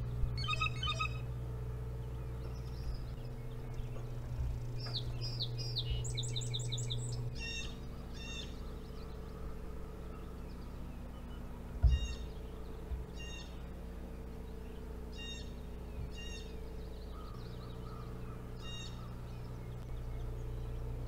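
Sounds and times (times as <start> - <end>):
bird calls: 0.0 - 21.0
harsh bird calls: 0.0 - 21.0
steady low hum: 0.0 - 21.0.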